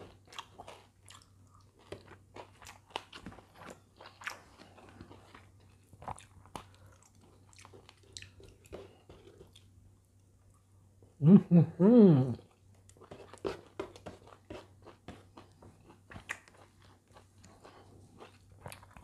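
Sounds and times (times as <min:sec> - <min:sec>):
person chewing crunchy food: 0:00.0 - 0:09.8, 0:12.4 - 0:19.0.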